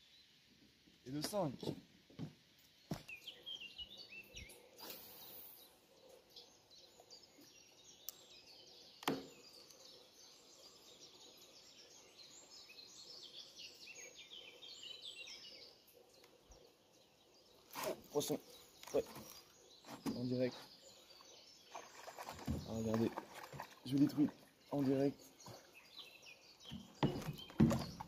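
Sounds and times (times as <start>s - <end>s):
faint birdsong chirps: 0.0s - 28.0s.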